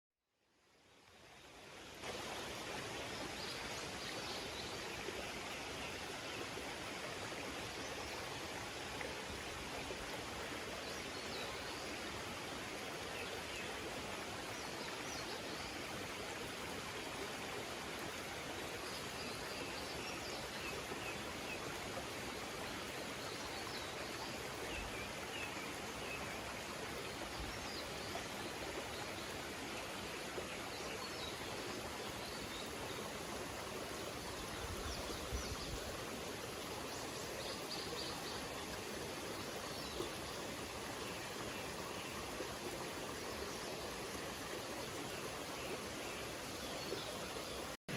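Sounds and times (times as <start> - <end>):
mountain stream rushing: 1.2 - 47.9.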